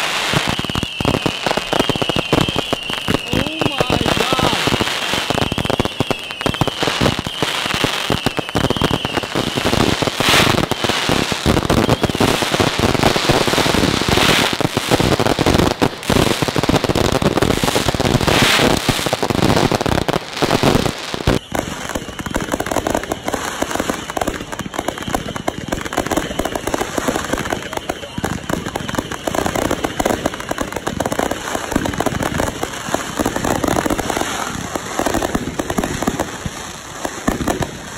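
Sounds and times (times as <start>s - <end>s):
fireworks popping and banging: 0.0s - 37.9s
wavering firework whistle: 0.0s - 37.9s.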